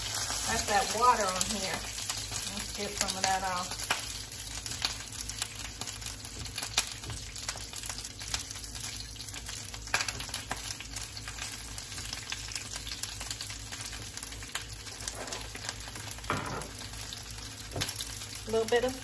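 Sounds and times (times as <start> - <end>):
greens sizzling in hot oil: 0.0 - 19.0.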